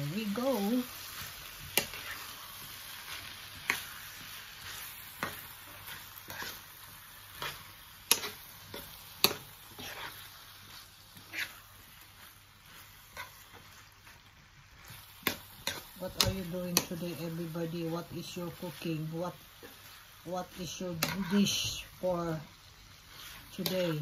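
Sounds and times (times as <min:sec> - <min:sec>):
food sizzling in a frying pan: 0:00.0 - 0:24.0
spatula tapping and scraping pan: 0:00.4 - 0:17.4, 0:19.6 - 0:21.8, 0:23.2 - 0:24.0.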